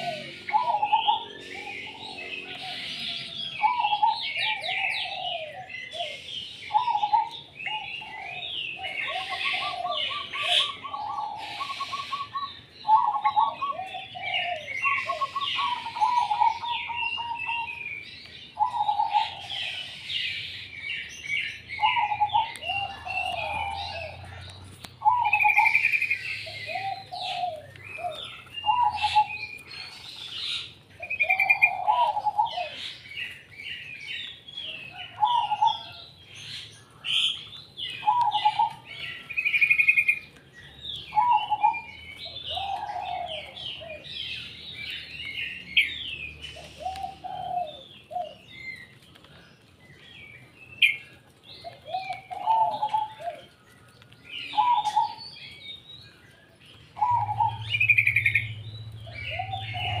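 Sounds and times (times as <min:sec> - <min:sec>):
dove cooing: 0:00.0 - 0:49.4, 0:50.4 - 1:00.0
songbirds chirping and singing: 0:00.0 - 1:00.0.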